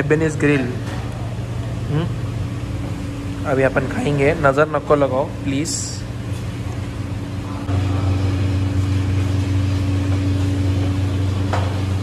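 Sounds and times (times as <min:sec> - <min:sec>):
ventilation fan hum: 0:00.0 - 0:12.0.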